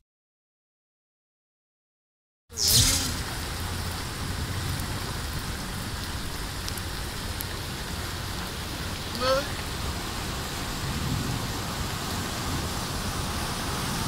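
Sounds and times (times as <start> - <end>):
heavy rain falling: 2.6 - 14.0.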